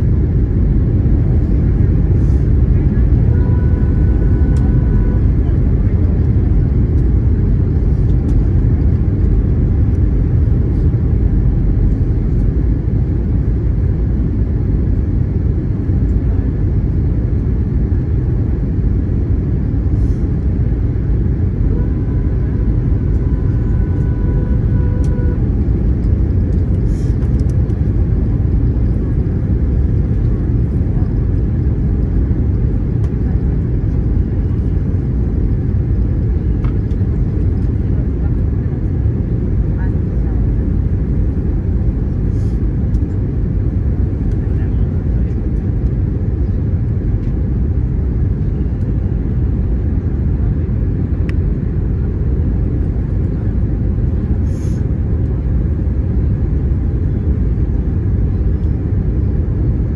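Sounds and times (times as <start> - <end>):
faint steady whine: 0.0 - 50.0
engine and airflow rumble: 0.0 - 59.9.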